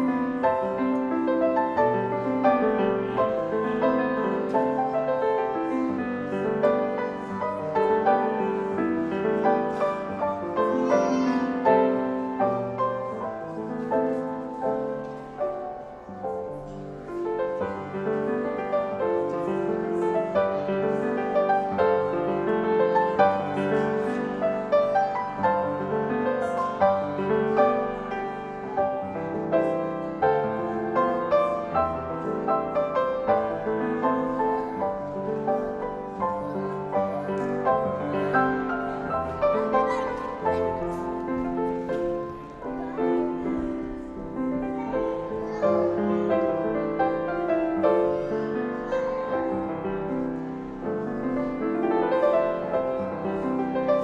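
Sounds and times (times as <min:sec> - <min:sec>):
piano playing slow classical piece: 0:00.0 - 0:54.0.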